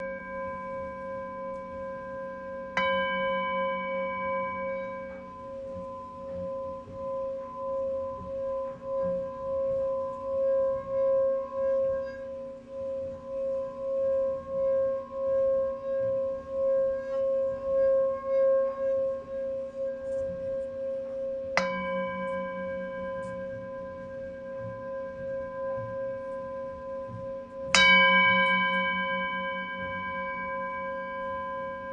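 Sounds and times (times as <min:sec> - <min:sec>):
singing bowl strike: 0:00.0 - 0:12.9, 0:15.9 - 0:31.9
singing bowl ringing: 0:00.0 - 0:31.9.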